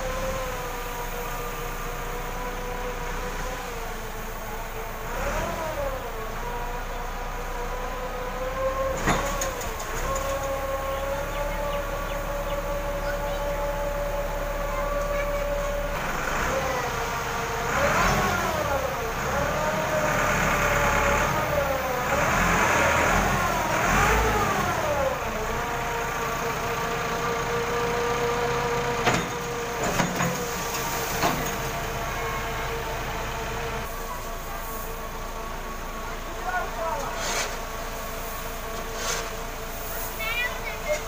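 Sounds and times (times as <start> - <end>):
tractor engine revving: 0.0 - 41.0.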